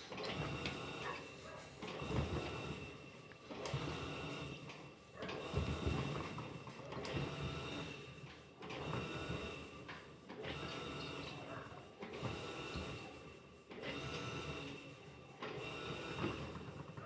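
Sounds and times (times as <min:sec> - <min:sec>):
washing machine motor whirring: 0:00.0 - 0:17.0.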